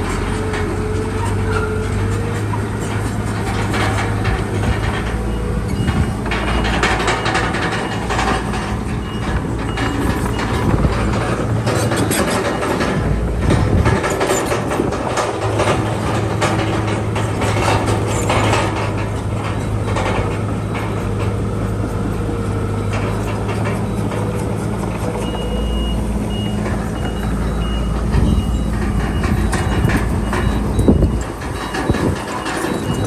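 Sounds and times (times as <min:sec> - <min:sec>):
diesel engine under load: 0:00.0 - 0:33.0
steel tracks clanking: 0:00.0 - 0:33.0
reversing alarm beeping: 0:03.9 - 0:33.0.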